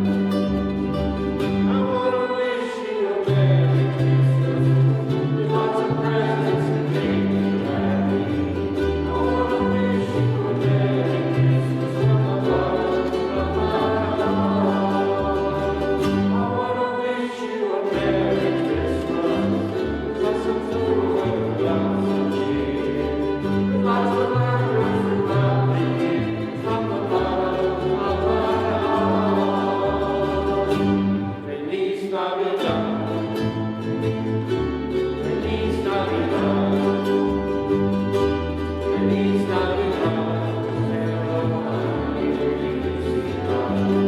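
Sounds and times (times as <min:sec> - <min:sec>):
choir singing a carol: 0:00.0 - 0:44.0.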